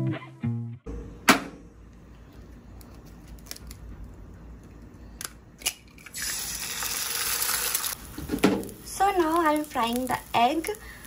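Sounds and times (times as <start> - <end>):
low room hum: 0.9 - 11.0.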